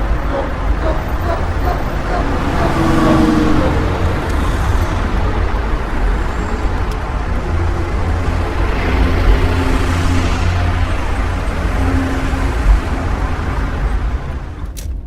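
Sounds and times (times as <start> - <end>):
low engine rumble: 0.0 - 15.0
traffic: 0.0 - 15.0.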